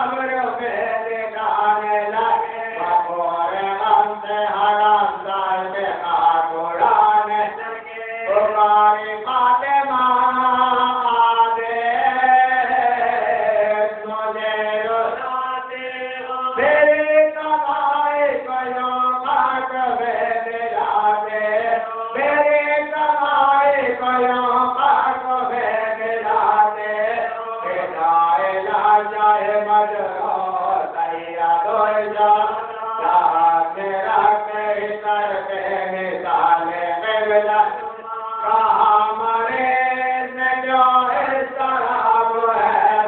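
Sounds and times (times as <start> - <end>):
man chanting: 0.0 - 43.0.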